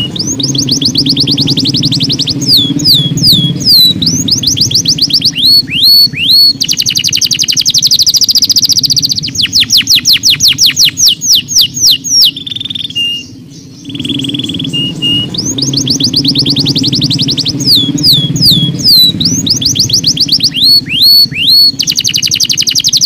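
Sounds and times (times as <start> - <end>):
canary whistled notes: 0.0 - 13.3, 13.9 - 23.0
canary singing trills: 0.0 - 23.0.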